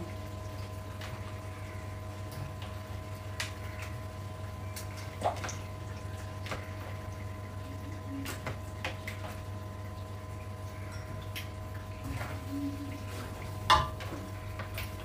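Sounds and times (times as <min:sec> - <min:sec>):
faint liquid sounds: 0:00.0 - 0:15.0
steady low hum: 0:00.0 - 0:15.0.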